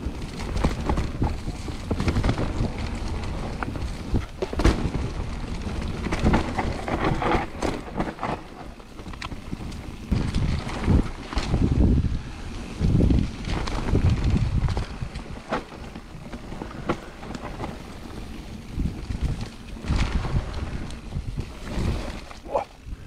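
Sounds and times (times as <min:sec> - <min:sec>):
bike knocking and rattling: 0:00.0 - 0:23.0
tyres on dirt: 0:00.0 - 0:23.0
wind noise on microphone: 0:00.0 - 0:23.0.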